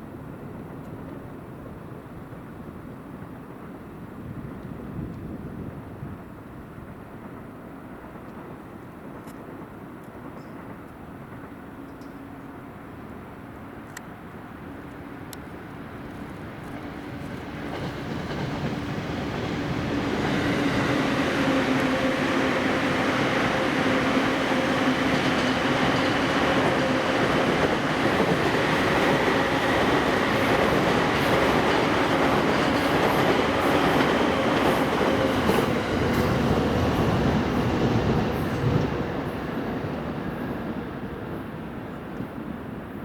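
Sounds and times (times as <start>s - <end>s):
train whine: 0.0s - 43.0s
electric train passing: 5.6s - 43.0s.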